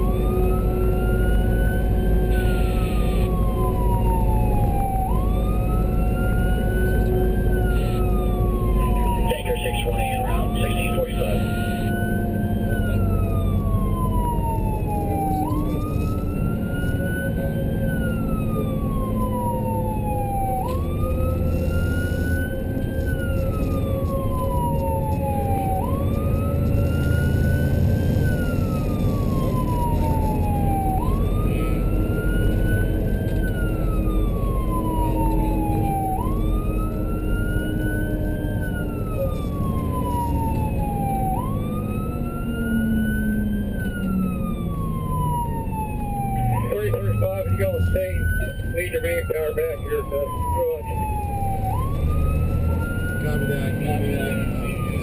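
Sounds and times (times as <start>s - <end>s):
emergency siren wailing: 0.0s - 55.0s
engine and road noise: 0.0s - 55.0s.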